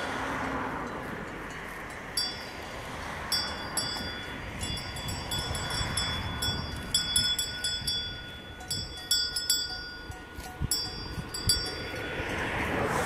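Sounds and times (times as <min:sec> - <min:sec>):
cowbells clanking: 0:00.0 - 0:13.0.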